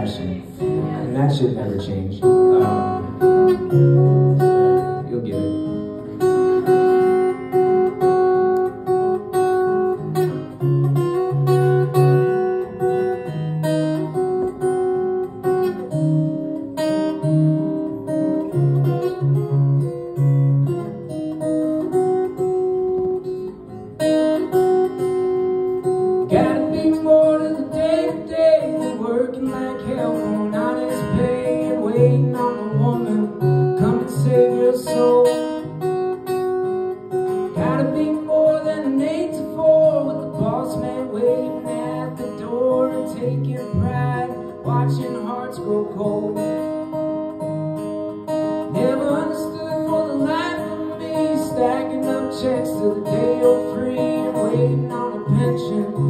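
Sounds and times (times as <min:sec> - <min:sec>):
acoustic guitar melody: 0:00.0 - 0:56.0.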